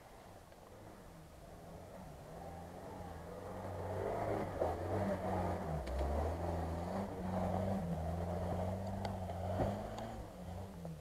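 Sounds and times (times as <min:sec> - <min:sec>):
off-road vehicle engine driving past: 0:00.0 - 0:11.0.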